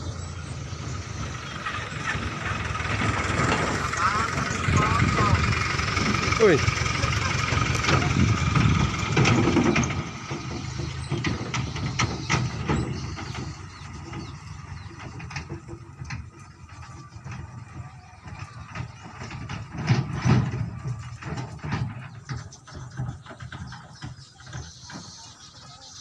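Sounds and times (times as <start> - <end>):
dump truck engine running: 0.0 - 26.0
sharp knocks and rattles: 0.0 - 26.0.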